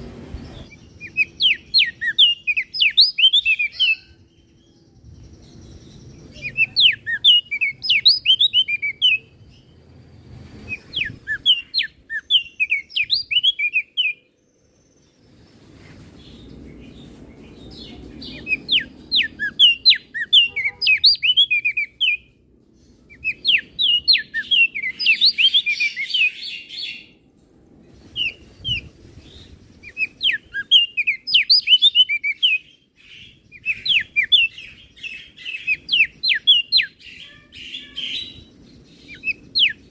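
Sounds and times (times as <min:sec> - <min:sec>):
bird high chirping song: 0:00.0 - 0:27.2, 0:27.9 - 0:39.9.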